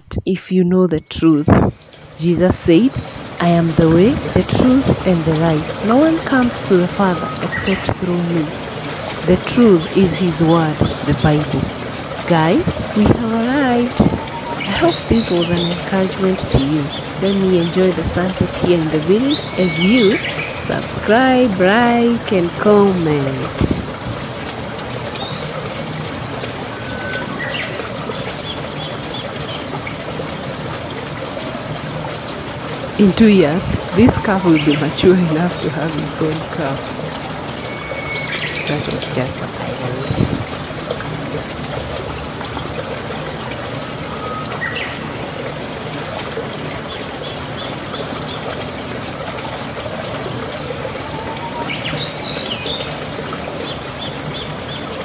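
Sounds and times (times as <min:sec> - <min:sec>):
birds chirping: 0:00.8 - 0:30.6, 0:31.6 - 0:40.5, 0:42.9 - 0:48.7, 0:50.0 - 0:55.0
running water trickling: 0:01.2 - 0:55.0.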